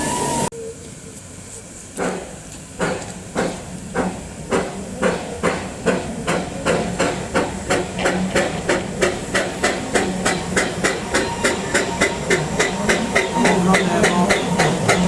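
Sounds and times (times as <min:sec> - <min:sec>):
steam locomotive chuffing: 0:00.0 - 0:00.5, 0:01.1 - 0:15.0.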